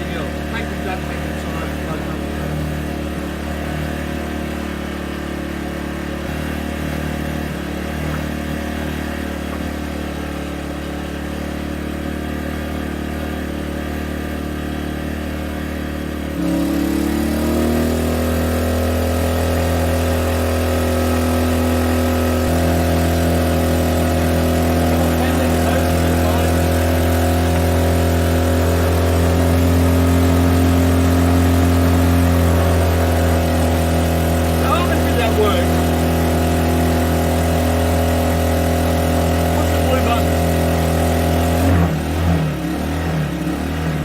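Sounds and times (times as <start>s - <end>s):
generator engine running: 0.0s - 44.0s.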